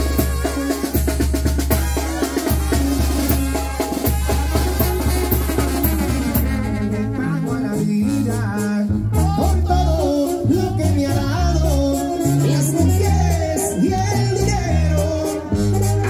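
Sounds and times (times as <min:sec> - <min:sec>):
trumpets: 0:00.0 - 0:10.8, 0:12.0 - 0:16.0
drum kit: 0:00.0 - 0:16.0
latin percussion: 0:00.0 - 0:16.0
tuba: 0:00.0 - 0:16.0.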